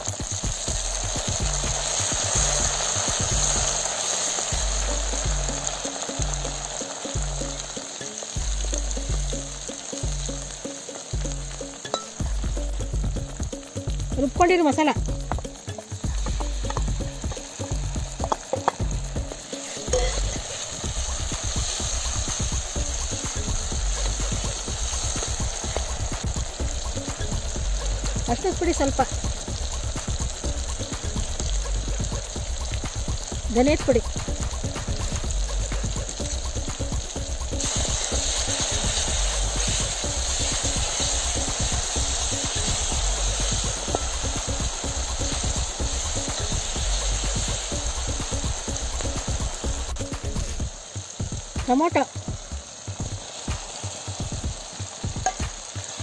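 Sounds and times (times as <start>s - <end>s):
low background music: 0.0s - 56.0s
vegetables sizzling in hot oil: 0.0s - 56.0s.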